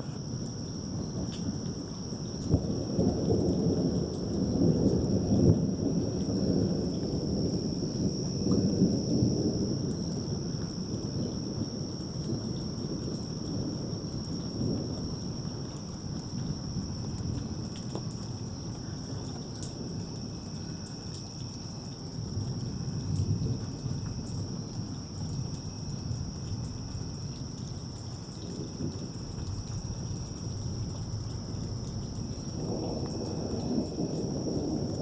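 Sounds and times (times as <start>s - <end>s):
rain: 0.0s - 35.0s
thunder rumbling: 0.0s - 35.0s.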